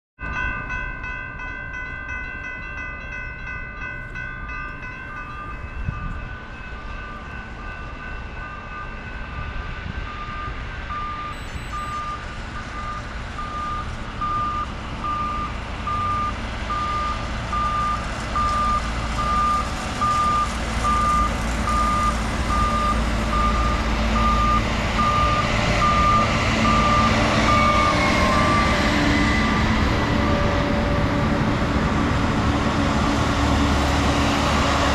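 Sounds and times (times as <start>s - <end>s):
railroad crossing bell ringing: 0.2s - 31.5s
track machine engines rumbling: 0.2s - 34.9s.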